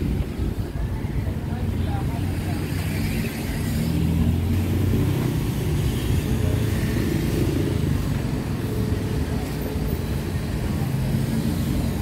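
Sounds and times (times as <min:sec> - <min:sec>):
car and motorbike engines: 0:00.0 - 0:12.0.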